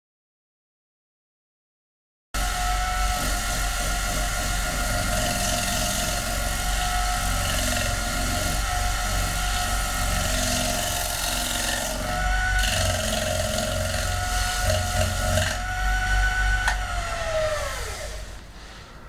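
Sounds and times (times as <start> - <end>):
wood lathe motor whine: 2.4 - 19.0.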